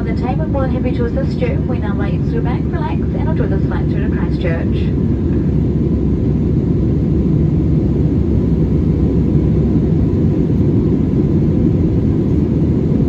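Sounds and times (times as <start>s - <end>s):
aircraft cabin rumble: 0.0s - 13.0s
faint steady whine: 0.0s - 13.0s.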